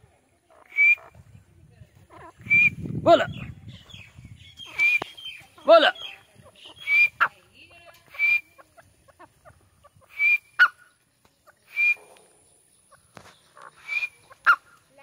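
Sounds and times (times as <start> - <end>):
francolin calling: 0.5 - 1.2, 2.1 - 15.0.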